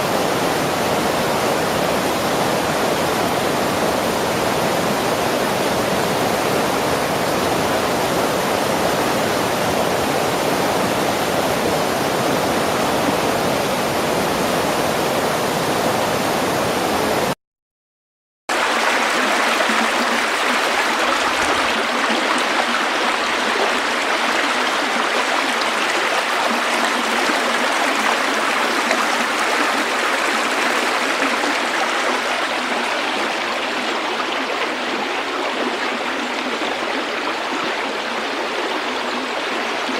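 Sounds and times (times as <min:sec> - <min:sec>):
river water flowing and gurgling: 0:00.0 - 0:17.3, 0:18.5 - 0:39.9.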